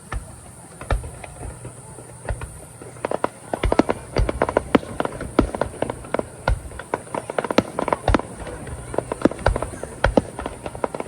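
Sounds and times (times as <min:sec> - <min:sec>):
fireworks booms: 0:00.0 - 0:11.0
fireworks cracking and popping: 0:00.0 - 0:11.0.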